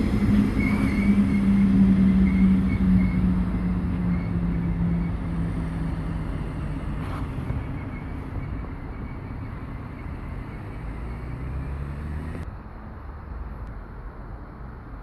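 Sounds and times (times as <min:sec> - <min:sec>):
diesel train engine rumbling: 0:00.0 - 0:15.0.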